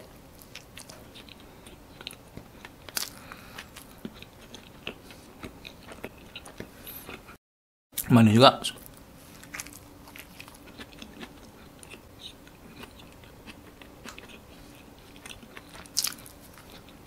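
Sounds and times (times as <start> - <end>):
chewing sandwich: 0.4 - 7.4, 8.9 - 17.0.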